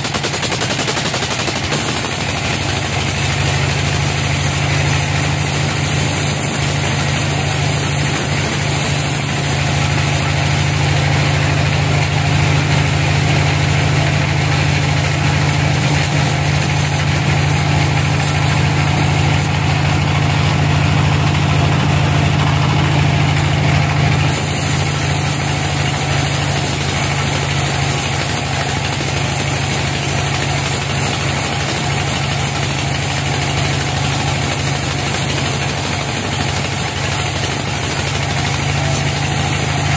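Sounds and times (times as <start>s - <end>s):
band saw machine hum: 0.0s - 39.9s.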